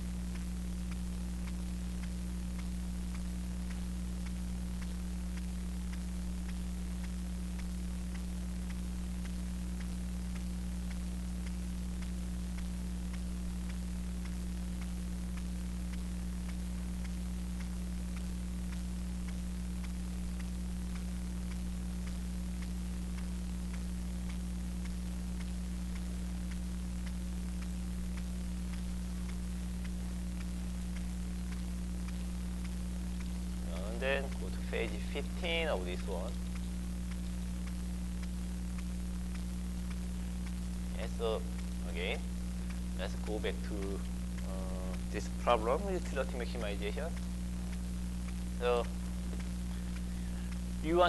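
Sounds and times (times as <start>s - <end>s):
electrical mains hum and hiss: 0.0s - 51.0s
faint regular ticks: 0.0s - 51.0s.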